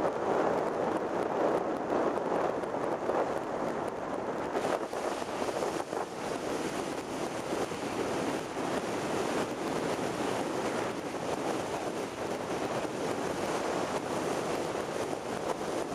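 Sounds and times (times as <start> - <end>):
wind rushing over microphone: 0.0 - 15.9.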